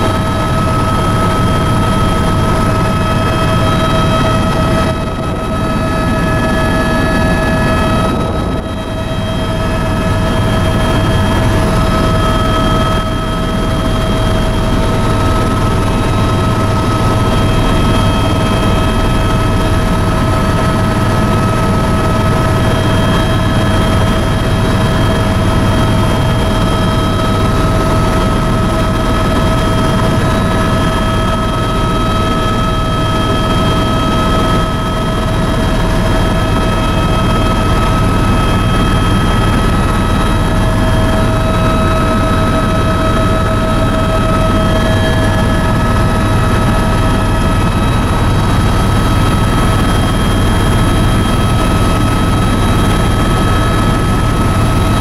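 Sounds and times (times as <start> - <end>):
helicopter rotor and engine noise: 0.0 - 55.0.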